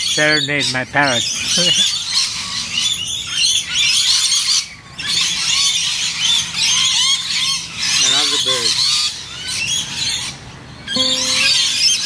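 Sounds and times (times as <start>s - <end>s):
parrots chirping and screeching: 0.0s - 10.4s.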